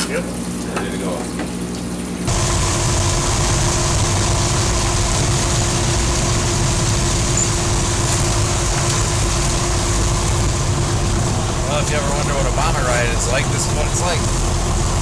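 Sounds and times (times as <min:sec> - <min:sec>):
steady hum: 0:02.2 - 0:15.0
engine rumble: 0:02.3 - 0:15.0.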